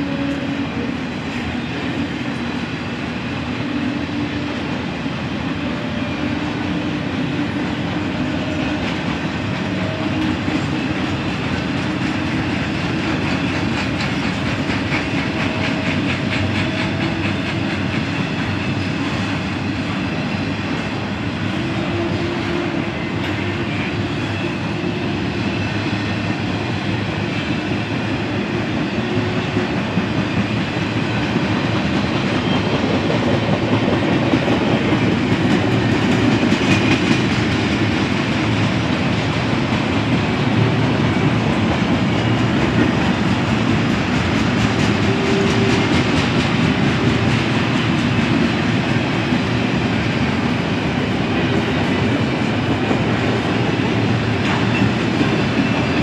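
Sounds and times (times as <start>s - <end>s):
steel train wheels on rails: 0.0s - 56.0s.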